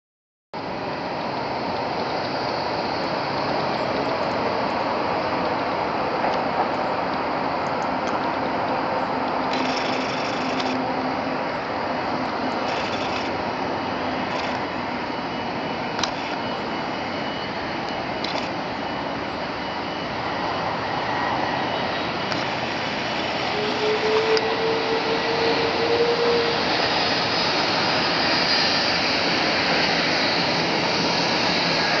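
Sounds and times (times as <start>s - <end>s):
high whine: 0.6s - 32.0s
jet engines running: 0.6s - 32.0s.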